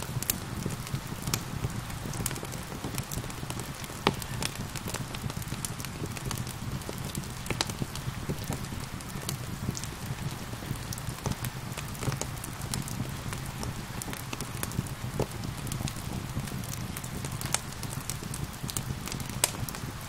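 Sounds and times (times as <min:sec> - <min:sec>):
rain hissing: 0:00.0 - 0:20.0
wood fire crackling and popping: 0:00.0 - 0:20.0.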